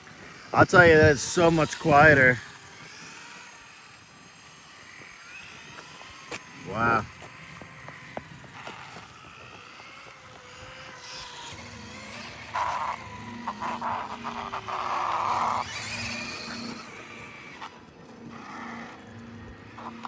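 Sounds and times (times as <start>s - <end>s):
electric motor whine: 0.0s - 20.0s
low pulsing from drivetrain: 0.0s - 20.0s.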